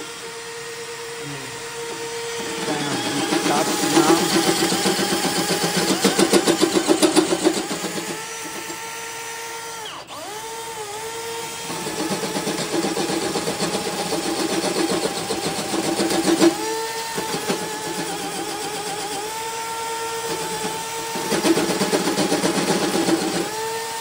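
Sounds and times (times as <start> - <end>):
drill motor whine: 0.0 - 24.0
cutter rattling in bore: 1.9 - 9.1, 11.4 - 23.6.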